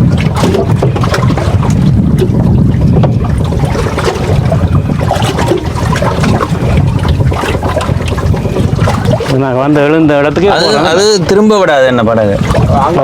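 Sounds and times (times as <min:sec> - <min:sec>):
water splashing against boat hull: 0:00.0 - 0:13.0
wind rumble on microphone: 0:00.0 - 0:13.0.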